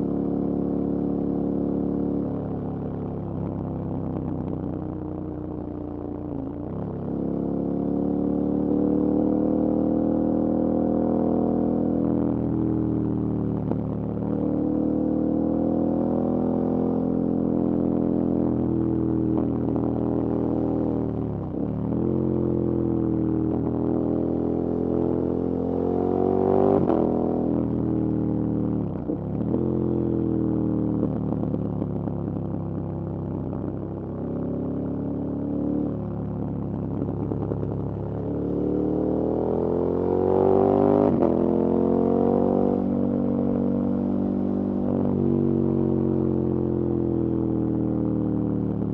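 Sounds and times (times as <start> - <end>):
motorcycle engine accelerating: 5.4 - 48.9.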